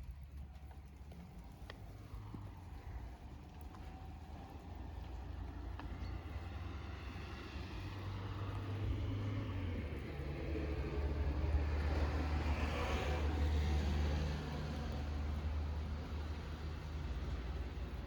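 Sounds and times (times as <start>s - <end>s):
road vehicle passing: 0.0s - 18.0s.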